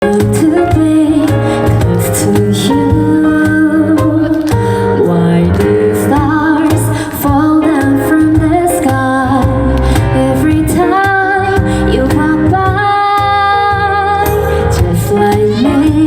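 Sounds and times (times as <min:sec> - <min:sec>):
band accompaniment: 0:00.0 - 0:16.0
steady bass line: 0:00.0 - 0:16.0
woman singing with vibrato: 0:00.0 - 0:16.0.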